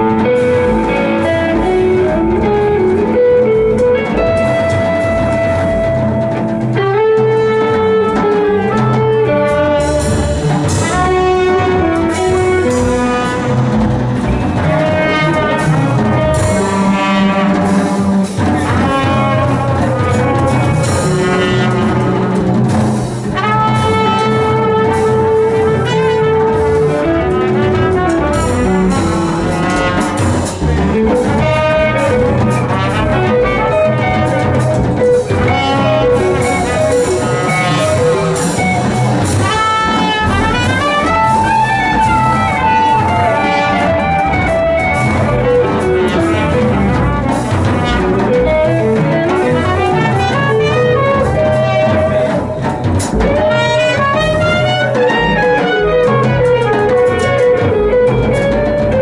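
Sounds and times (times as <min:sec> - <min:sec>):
drum kit with ride cymbal: 0:00.0 - 0:59.0
guitar: 0:00.0 - 0:59.0
trumpet melody: 0:00.0 - 0:59.0
upright bass: 0:00.0 - 0:59.0.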